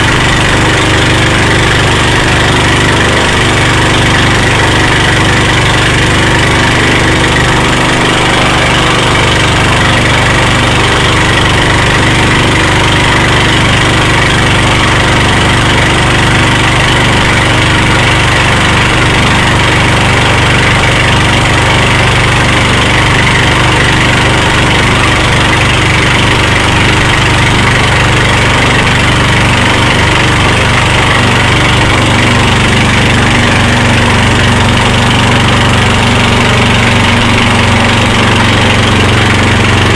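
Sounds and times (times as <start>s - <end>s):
motorboat engine humming: 0.0s - 39.9s.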